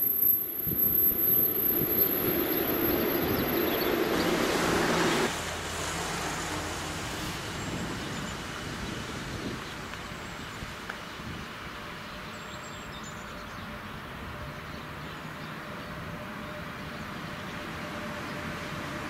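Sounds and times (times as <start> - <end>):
train rumble and rail noise: 0.0 - 19.0.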